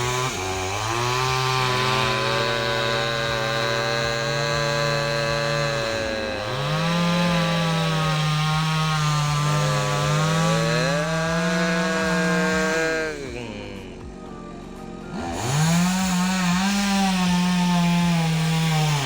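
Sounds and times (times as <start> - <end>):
chainsaw cutting into tree: 0.0 - 19.0.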